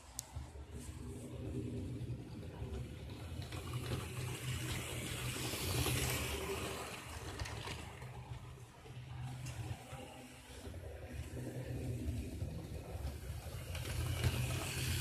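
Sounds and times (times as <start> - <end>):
model train motor hum: 0.0 - 15.0.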